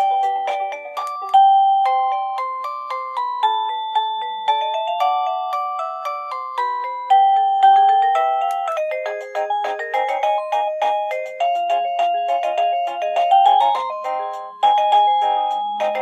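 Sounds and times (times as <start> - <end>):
electronic doorbell chime melody: 0.0 - 16.0.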